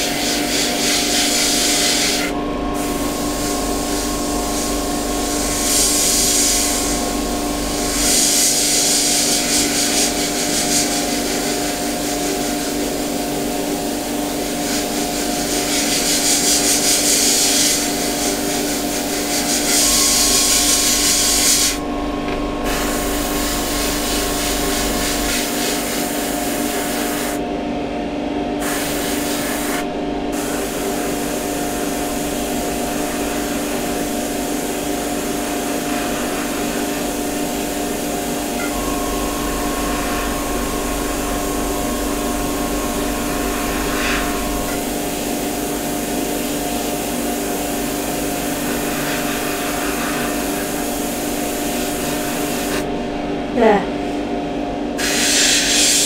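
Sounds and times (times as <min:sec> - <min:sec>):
airbrush hissing: 0:00.0 - 0:21.8, 0:22.6 - 0:27.4, 0:28.6 - 0:52.9, 0:55.0 - 0:56.0
steady low hum: 0:00.0 - 0:55.0.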